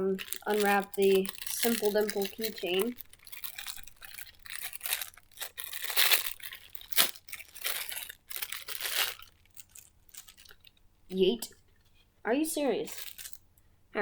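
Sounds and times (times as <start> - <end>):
plastic packaging crinkling and tearing: 0.0 - 10.8, 12.8 - 13.4.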